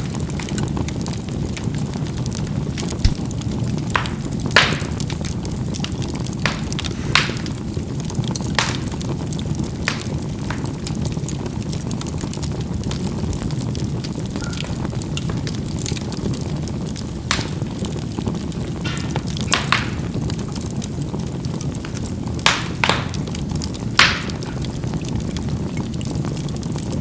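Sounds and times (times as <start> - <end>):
coals popping and crackling: 0.0 - 27.0
low rumble of flame: 0.0 - 27.0.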